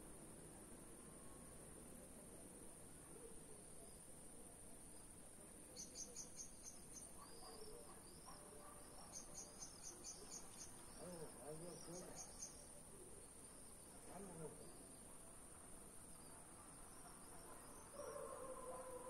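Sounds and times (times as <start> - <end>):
faint distant voices: 0.0 - 19.0.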